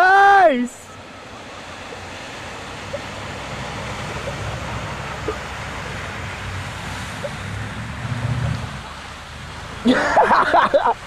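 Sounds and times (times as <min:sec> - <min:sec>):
water rushing: 0:00.0 - 0:11.0
truck engine running: 0:01.0 - 0:11.0.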